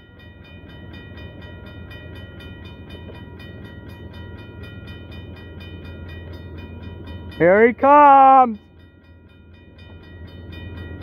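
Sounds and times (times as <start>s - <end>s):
railroad crossing bell ringing: 0.0s - 11.0s.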